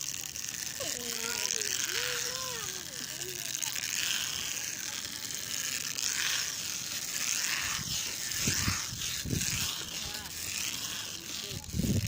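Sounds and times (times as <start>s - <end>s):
rope creaking under tension: 0.0s - 12.0s
steady hiss: 0.0s - 12.0s.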